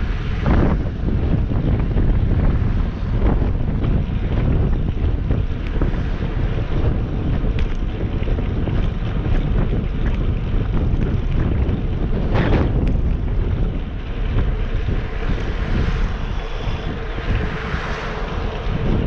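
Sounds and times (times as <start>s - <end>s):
wind buffeting microphone: 0.0s - 19.0s
bicycle clicks and rattles: 0.4s - 17.4s.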